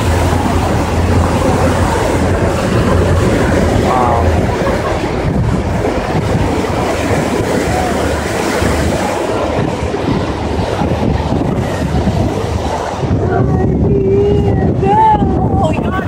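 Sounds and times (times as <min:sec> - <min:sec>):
low rumble of boat and water: 0:00.0 - 0:16.0
wind buffeting microphone: 0:00.0 - 0:16.0.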